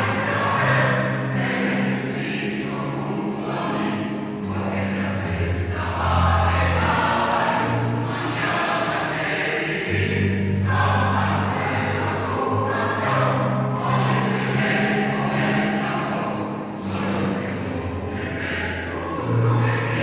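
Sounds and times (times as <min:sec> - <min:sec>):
choir singing: 0:00.0 - 0:20.0
piano accompaniment: 0:00.0 - 0:20.0.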